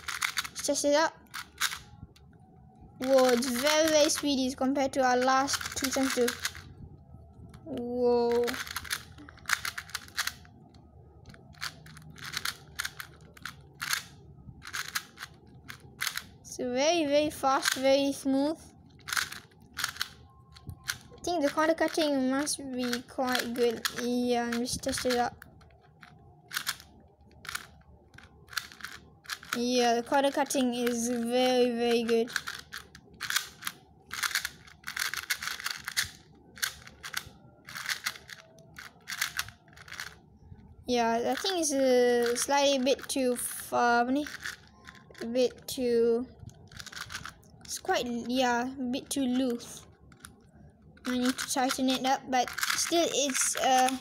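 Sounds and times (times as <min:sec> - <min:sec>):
puzzle cube plastic clicks: 0:00.0 - 0:16.4, 0:17.2 - 0:54.0.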